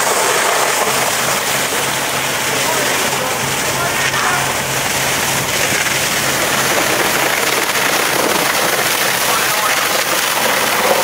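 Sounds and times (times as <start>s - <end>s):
water stream hissing and splashing: 0.0s - 11.0s.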